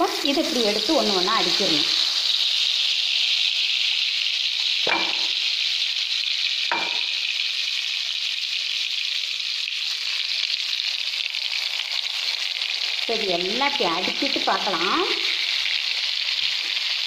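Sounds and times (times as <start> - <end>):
eggplant sizzling in oil: 0.0 - 17.0.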